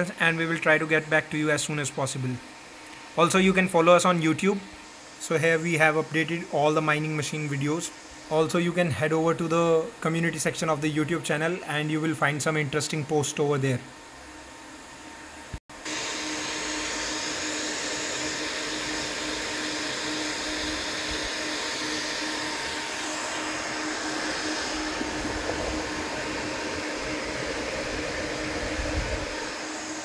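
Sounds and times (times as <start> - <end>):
blower fans whooshing: 0.0 - 30.0
steady hum: 0.0 - 30.0.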